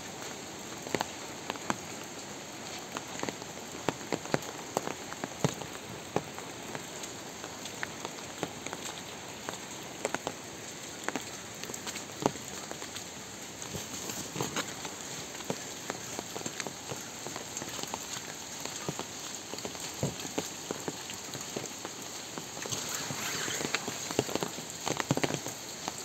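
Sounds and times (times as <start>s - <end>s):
steady rain on vegetation: 0.0s - 26.0s
heavy raindrops tapping: 2.7s - 26.0s.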